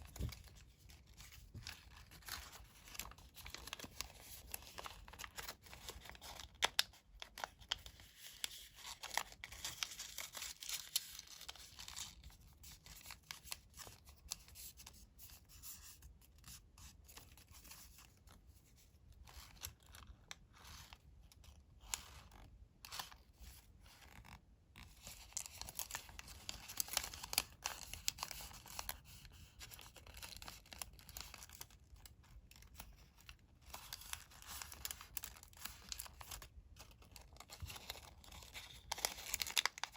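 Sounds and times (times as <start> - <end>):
paper rustling and crackling: 0.0 - 39.9.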